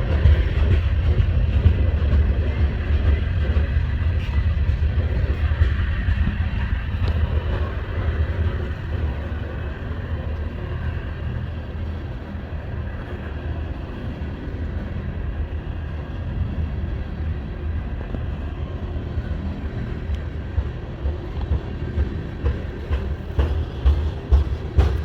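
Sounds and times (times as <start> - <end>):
freight train rumbling past: 0.0 - 25.0.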